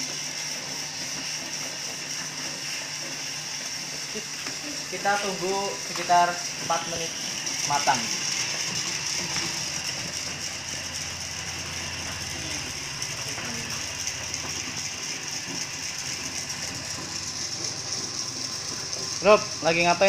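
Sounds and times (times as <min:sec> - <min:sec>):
gas burner hissing: 0:00.0 - 0:20.0.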